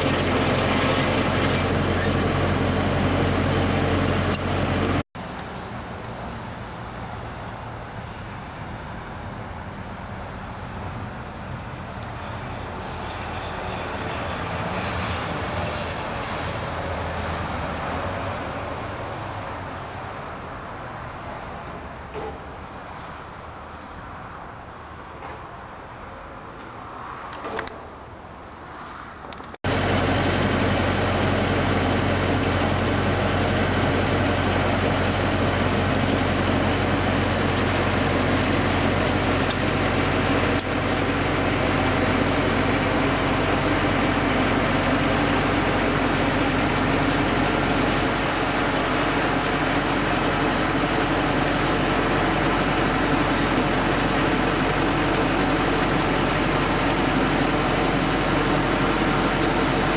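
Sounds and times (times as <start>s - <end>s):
engine running with low hum: 0.0s - 24.5s, 29.2s - 59.9s.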